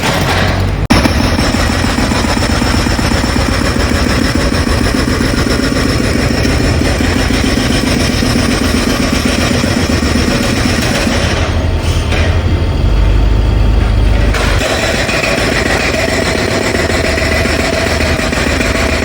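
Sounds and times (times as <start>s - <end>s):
roadworks machinery rattling: 0.0s - 19.0s.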